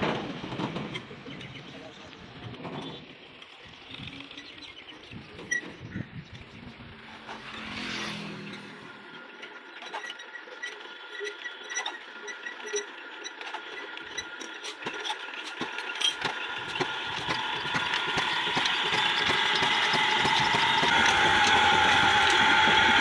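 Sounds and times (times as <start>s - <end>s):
diesel engine hand-cranked: 0.0s - 23.0s.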